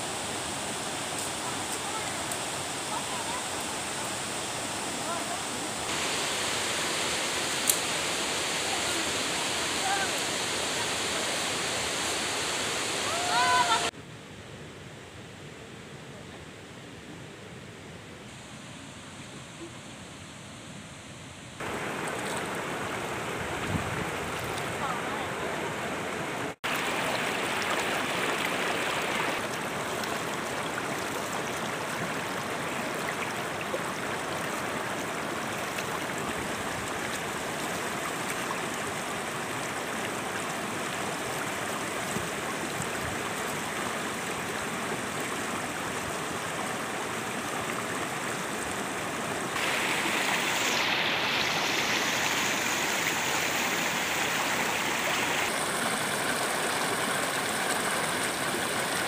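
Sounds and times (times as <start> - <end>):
stream rushing over stones: 0.0 - 14.0, 21.6 - 59.0.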